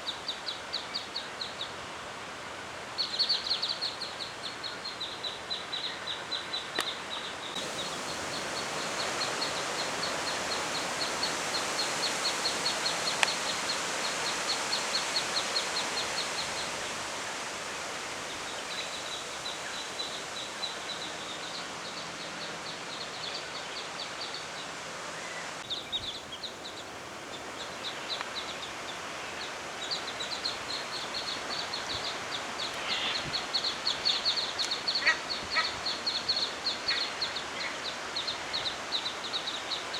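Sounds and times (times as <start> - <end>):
birds chirping: 3.2 - 17.0, 18.2 - 39.8.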